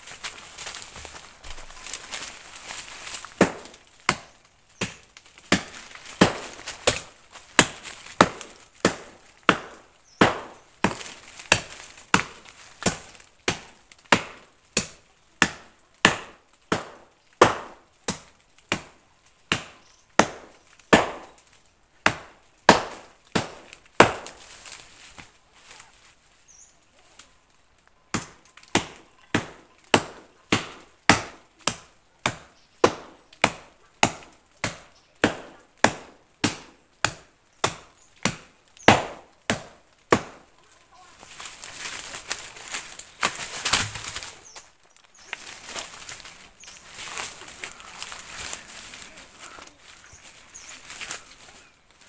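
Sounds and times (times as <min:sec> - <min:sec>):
wood chopped with a blade: 0:00.1 - 0:25.3, 0:28.1 - 0:40.5, 0:41.2 - 0:49.8.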